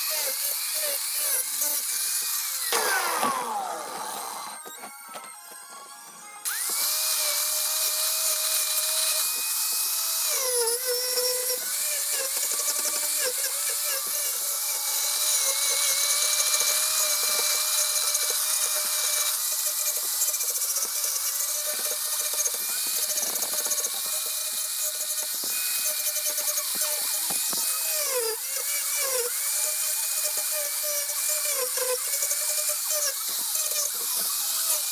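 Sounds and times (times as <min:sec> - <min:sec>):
angle grinder cutting wood: 0:00.0 - 0:34.9.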